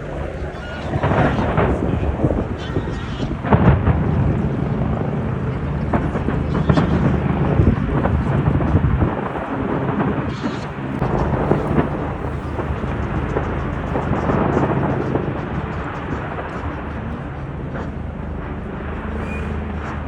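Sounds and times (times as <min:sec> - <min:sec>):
fireworks booming and banging: 0:00.0 - 0:20.0.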